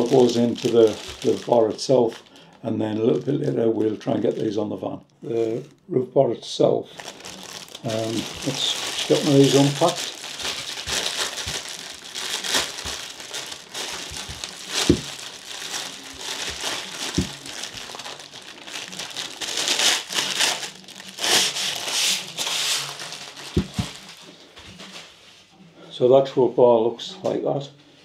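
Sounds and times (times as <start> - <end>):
plastic wrapping crinkling: 0.0 - 5.8, 6.9 - 25.4.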